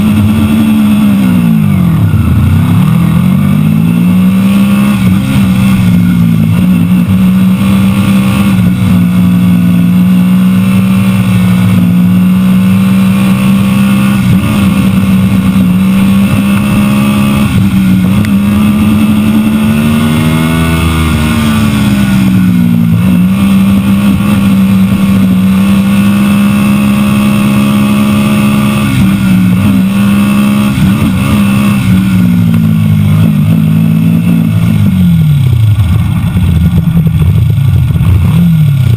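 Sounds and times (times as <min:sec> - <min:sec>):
race car engine running: 0:00.0 - 0:38.9.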